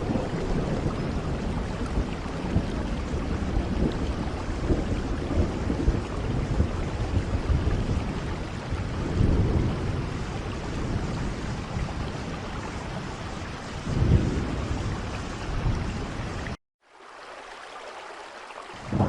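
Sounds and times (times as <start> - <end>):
low thunder rumbling: 0.0 - 16.6, 18.8 - 19.0
heavy rain: 0.0 - 17.6, 18.5 - 19.0.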